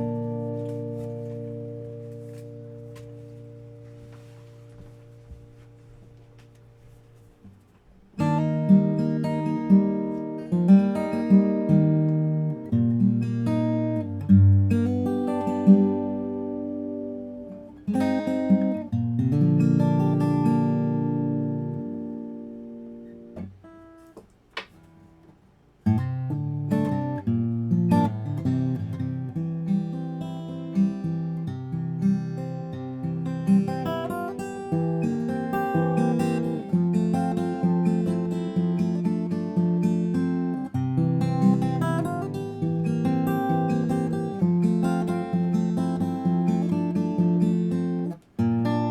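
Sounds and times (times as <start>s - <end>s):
acoustic guitar playing: 0.0s - 48.9s.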